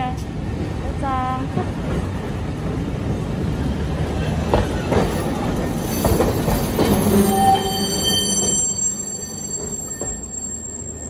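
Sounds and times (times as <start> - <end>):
streetcar wheels rumbling on rails: 0.0 - 11.0.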